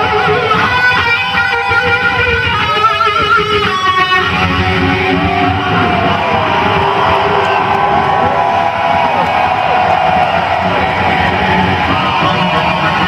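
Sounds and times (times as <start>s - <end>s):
electric guitar solo: 0.0s - 13.0s.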